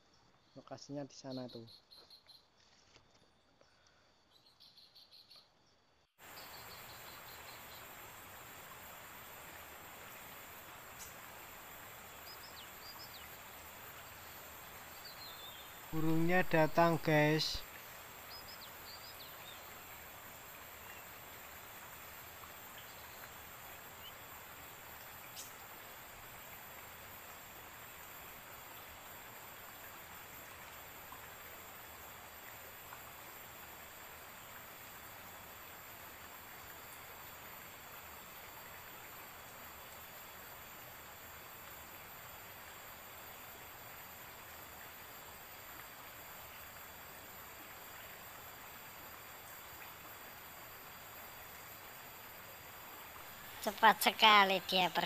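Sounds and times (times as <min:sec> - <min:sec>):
river flowing: 0:06.2 - 0:55.0.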